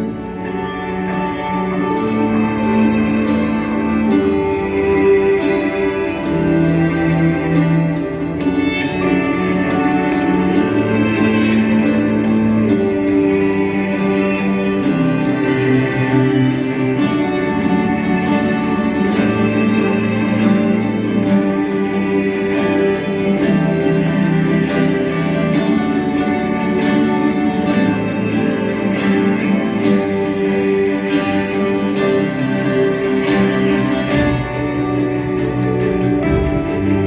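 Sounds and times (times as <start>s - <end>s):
plucked string background music: 0.0s - 37.0s.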